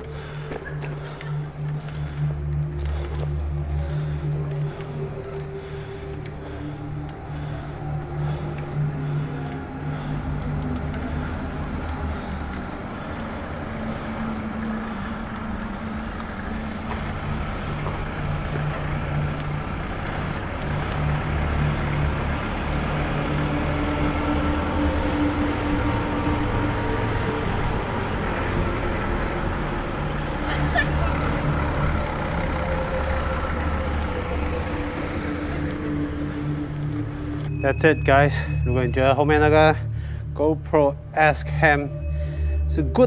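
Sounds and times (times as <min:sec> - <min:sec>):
vehicle engines in traffic: 0:00.0 - 0:43.0.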